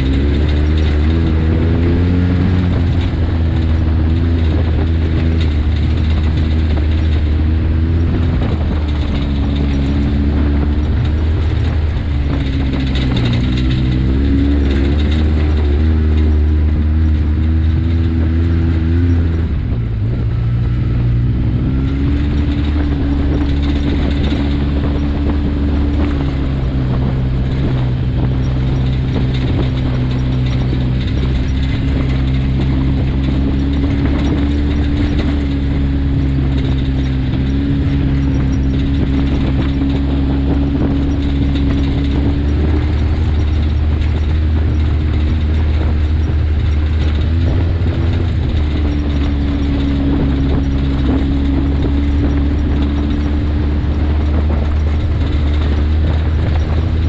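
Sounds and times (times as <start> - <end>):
off-road vehicle engine: 0.0 - 57.0.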